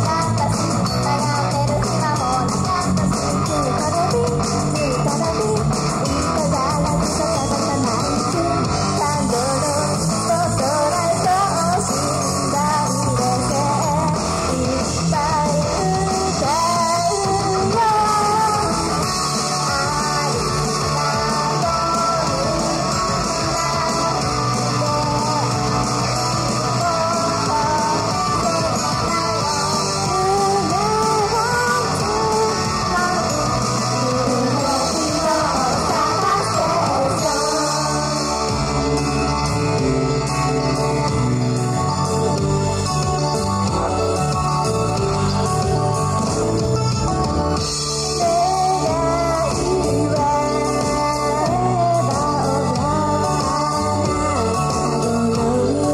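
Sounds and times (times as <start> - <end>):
girls singing pop-rock song: 0.0 - 46.6, 47.6 - 55.9
band backing with electric guitar: 0.0 - 55.9.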